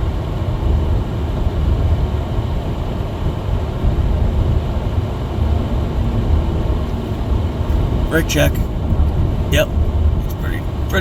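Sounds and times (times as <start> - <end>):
car engine rumble: 0.0 - 11.0
tyres on snowy road: 0.0 - 11.0.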